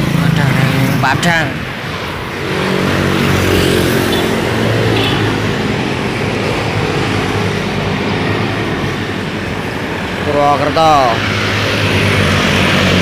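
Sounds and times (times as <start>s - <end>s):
car engine and tyre rush: 0.0s - 13.0s
motorbike traffic: 0.0s - 13.0s.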